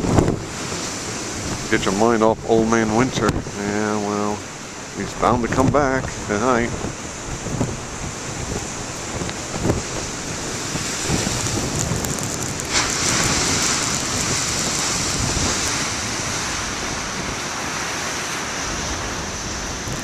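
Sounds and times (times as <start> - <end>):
surf breaking against rocks: 0.0 - 20.0
wind buffeting microphone: 0.0 - 20.0.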